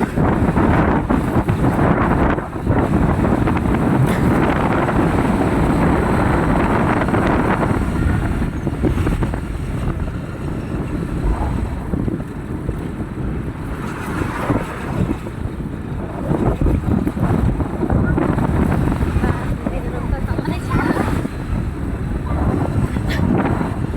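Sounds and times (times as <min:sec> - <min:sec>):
vehicle rumble: 0:00.0 - 0:23.9
wind buffeting microphone: 0:00.0 - 0:23.9.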